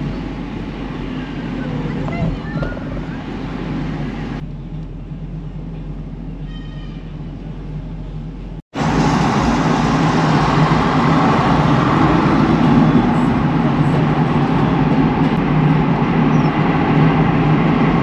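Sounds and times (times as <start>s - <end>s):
vehicle road noise and engine hum: 0.0s - 18.0s.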